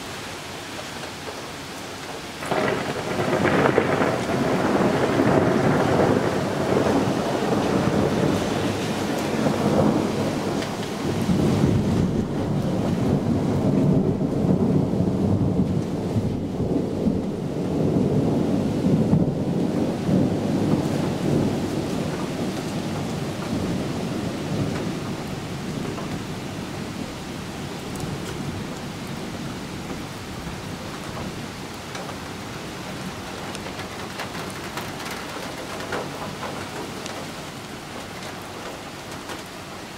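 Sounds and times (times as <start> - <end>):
steady rain hiss: 0.0 - 39.9
rolling thunder rumble: 2.4 - 39.5.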